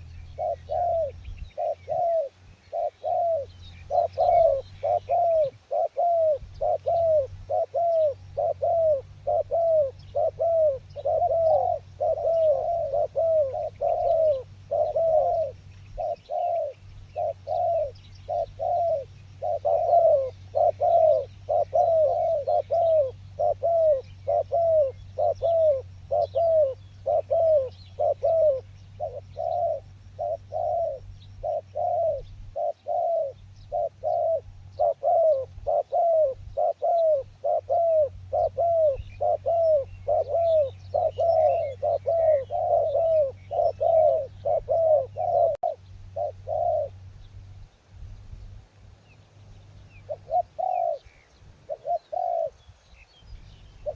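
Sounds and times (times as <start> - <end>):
dove cooing: 0.0 - 47.2, 49.8 - 53.9
low steady rumble: 0.0 - 53.9.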